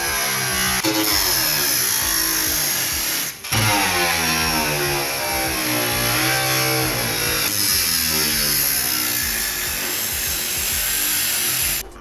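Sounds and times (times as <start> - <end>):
angle grinder cutting metal: 0.0 - 11.9.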